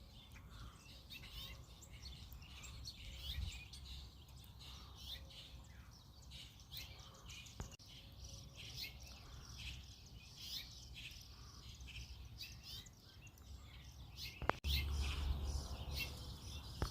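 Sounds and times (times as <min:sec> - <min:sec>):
birds chirping and calling: 0:00.0 - 0:16.9.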